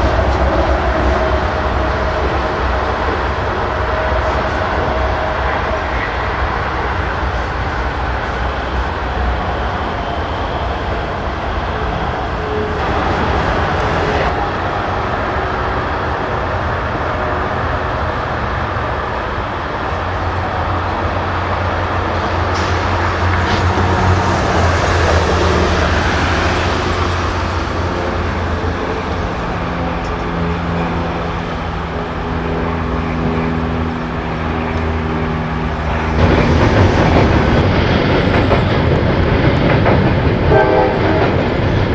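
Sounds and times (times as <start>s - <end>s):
train passing with rumble: 0.0s - 41.9s.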